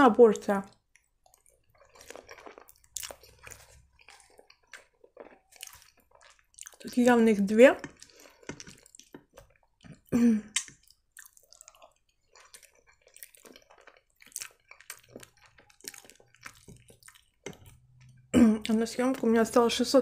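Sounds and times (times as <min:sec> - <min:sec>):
person chewing wetly: 0:00.7 - 0:19.6.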